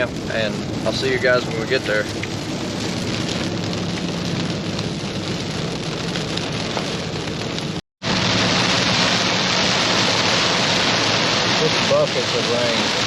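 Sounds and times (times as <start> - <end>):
engine and road drone: 0.0 - 13.0
heavy rain on a truck: 0.0 - 13.0.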